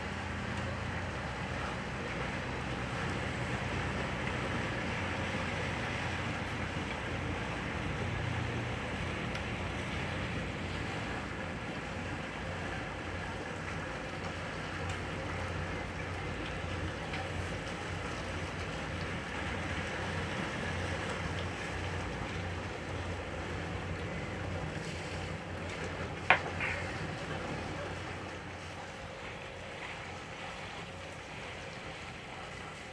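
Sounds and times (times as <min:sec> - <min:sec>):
boat engine humming: 0:00.0 - 0:32.9
hiss of wind and water: 0:00.0 - 0:32.9.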